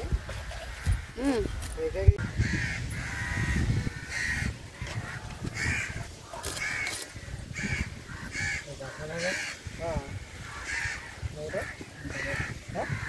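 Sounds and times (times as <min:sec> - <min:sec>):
crows cawing: 0:02.2 - 0:13.0.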